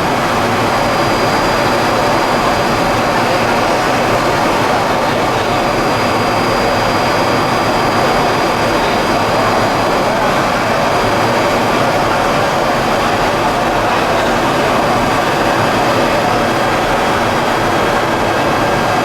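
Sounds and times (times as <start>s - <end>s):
industrial machinery running: 0.0s - 19.0s
thin high machine whine: 0.0s - 19.0s.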